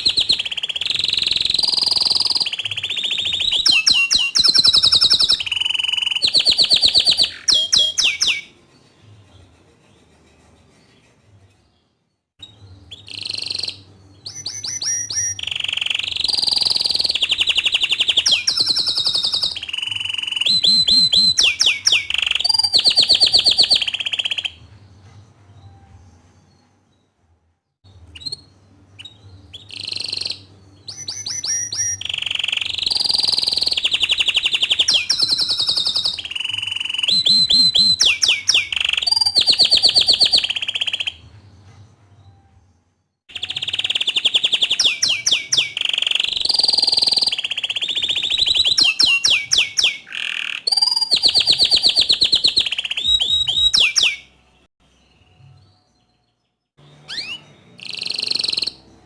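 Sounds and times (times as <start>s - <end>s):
canary singing trills: 0.0s - 10.1s, 12.4s - 26.8s, 27.9s - 41.6s, 43.3s - 59.0s.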